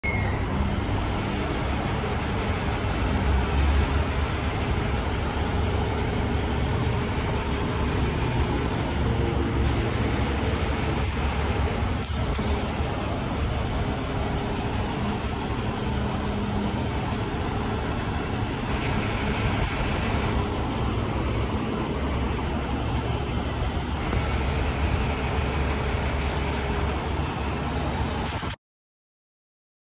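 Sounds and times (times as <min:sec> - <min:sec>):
diesel engine idling: 0:00.0 - 0:28.5.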